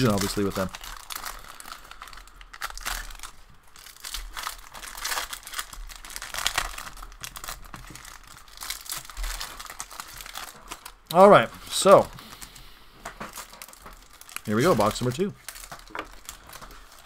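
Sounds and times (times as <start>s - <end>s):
card pack wrappers crinkling: 0.0s - 17.0s.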